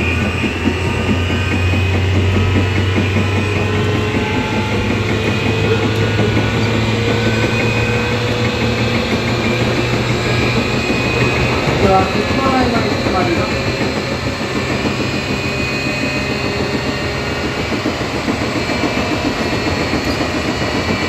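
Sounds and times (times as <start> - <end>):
electric train motor hum: 0.0 - 21.0
high-pitched whining: 0.0 - 21.0.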